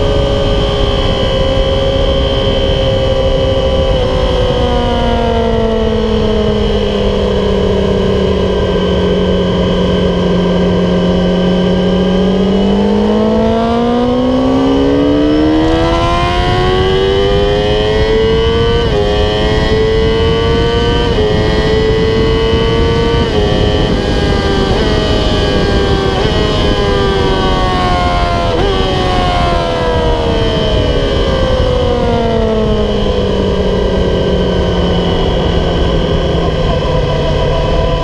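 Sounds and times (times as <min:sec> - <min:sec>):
motorcycle engine accelerating: 0:00.0 - 0:38.0
wind noise: 0:00.0 - 0:38.0.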